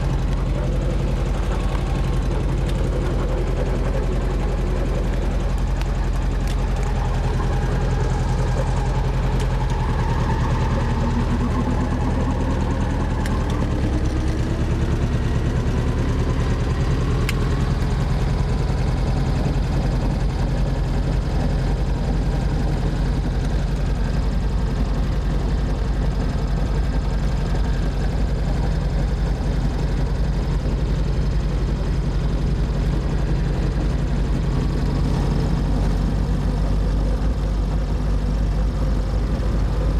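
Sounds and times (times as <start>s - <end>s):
helicopter engine and rotor: 0.0s - 38.4s.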